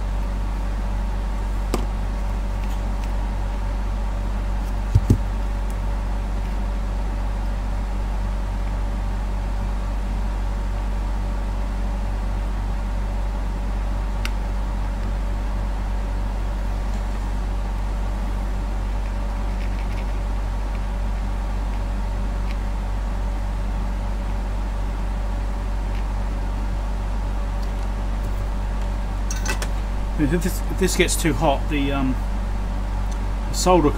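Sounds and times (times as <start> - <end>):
low electrical mains hum: 0.0 - 33.9.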